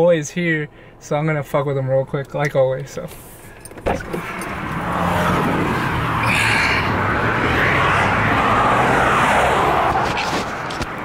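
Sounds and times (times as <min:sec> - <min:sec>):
car engine hum: 0:00.0 - 0:11.0
road and wind noise: 0:00.0 - 0:11.0.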